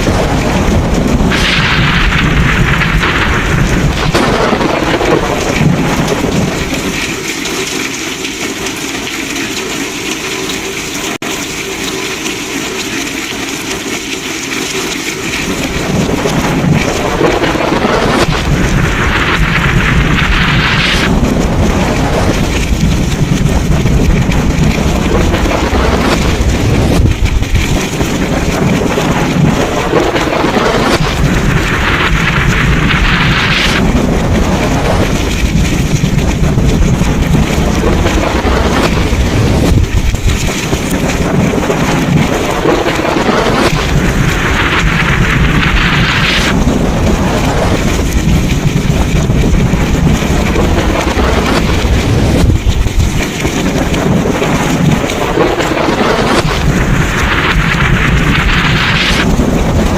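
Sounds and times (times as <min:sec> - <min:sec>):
low thunder rumble: 0:00.0 - 0:07.8, 0:15.2 - 0:59.9
heavy rain: 0:00.0 - 0:59.9
wind: 0:00.0 - 0:59.9.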